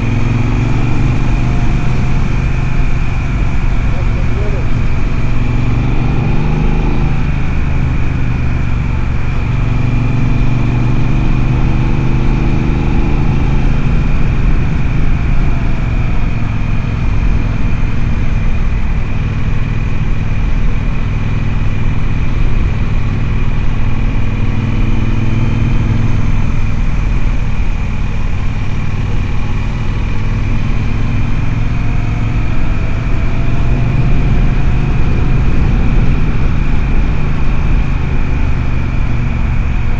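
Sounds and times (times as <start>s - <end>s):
motorcycle engine cruising: 0.0s - 39.9s
road noise: 0.0s - 39.9s
wind noise: 0.0s - 39.9s.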